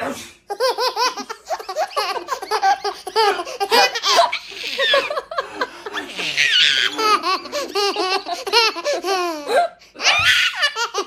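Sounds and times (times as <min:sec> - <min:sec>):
child laughing: 0:00.5 - 0:11.0.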